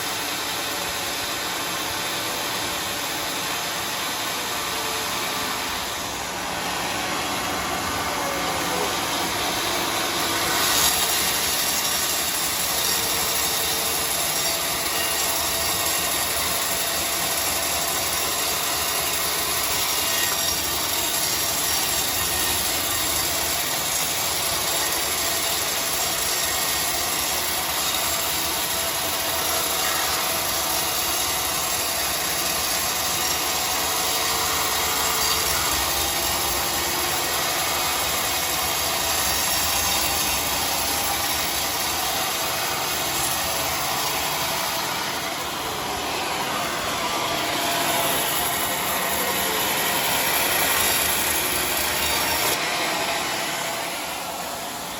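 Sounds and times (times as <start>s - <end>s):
large saw running: 0.0s - 54.9s.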